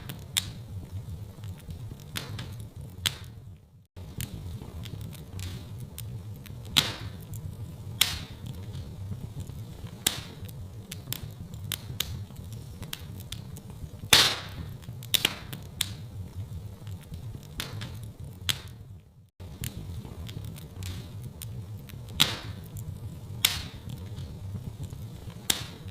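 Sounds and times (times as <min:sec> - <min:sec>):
low steady rumble: 0:00.0 - 0:25.9
sharp pops and snaps: 0:00.0 - 0:25.9
wood fire crackling: 0:00.0 - 0:25.9.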